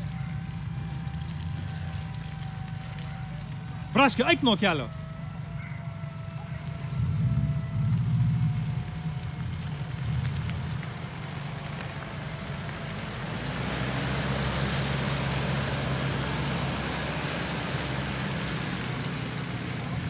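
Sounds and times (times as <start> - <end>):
diesel engine running at low revs: 0.0 - 20.0
tyres hissing in wet mud: 0.0 - 20.0.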